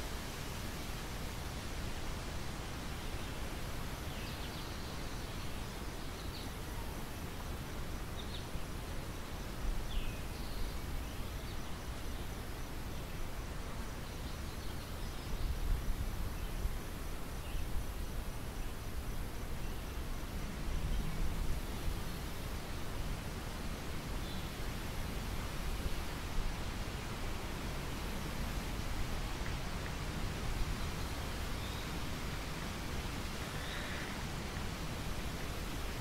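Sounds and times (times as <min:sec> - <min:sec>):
wind over wheat field: 0:00.0 - 0:36.0.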